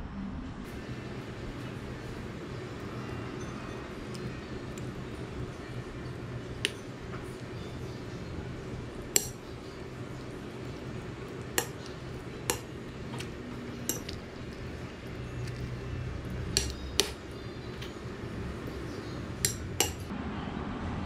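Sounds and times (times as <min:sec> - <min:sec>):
spoon clinking against ceramic bowl: 0:02.5 - 0:18.0, 0:18.6 - 0:20.1.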